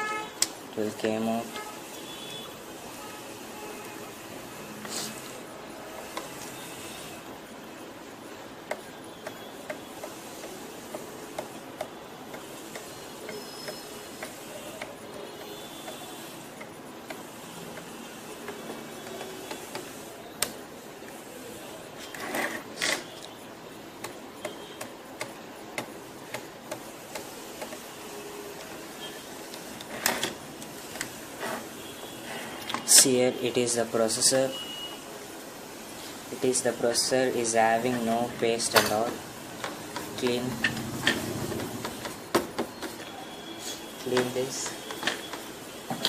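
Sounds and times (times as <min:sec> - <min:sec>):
steady hiss: 0:00.4 - 0:22.8, 0:23.4 - 0:46.0.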